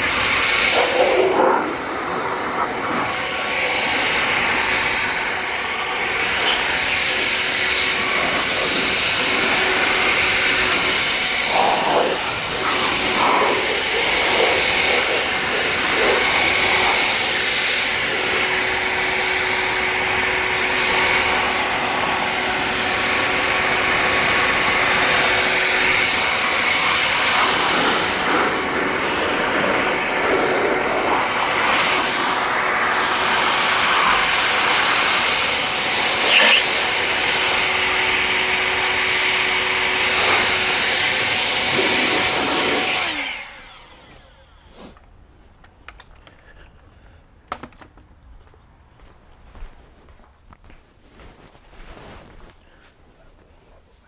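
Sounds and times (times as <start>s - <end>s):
air blower rushing: 0.0s - 45.0s.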